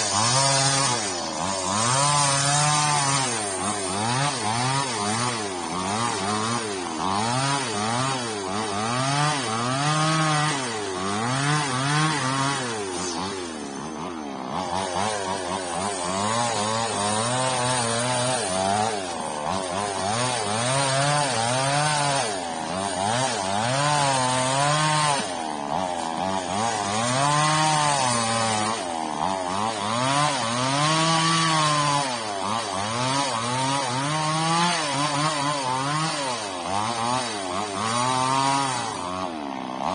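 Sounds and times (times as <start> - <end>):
petrol saw cutting: 0.0 - 39.9.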